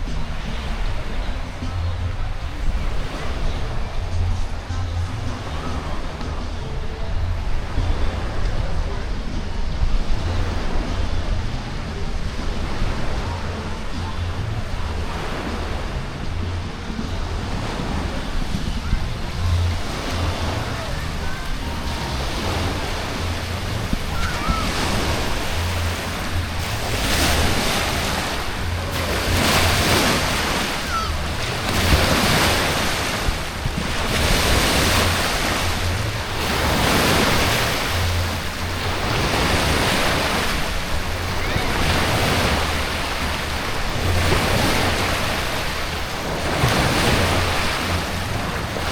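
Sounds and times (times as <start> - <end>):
water rushing and splashing: 0.0 - 48.9
wind on microphone: 0.0 - 48.9.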